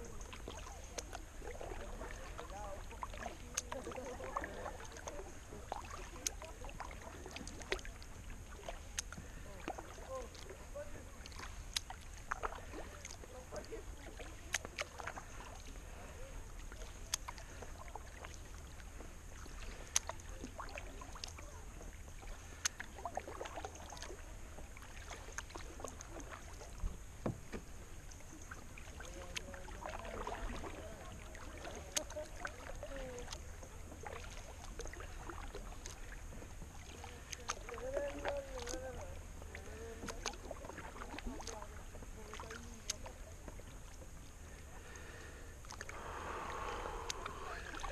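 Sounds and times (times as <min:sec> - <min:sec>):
paddle clicking on plastic kayak: 0:00.0 - 0:15.8, 0:16.6 - 0:24.2, 0:24.8 - 0:44.0, 0:44.9 - 0:47.9
paddle pulling through water: 0:00.0 - 0:47.9
water drips: 0:00.0 - 0:47.9.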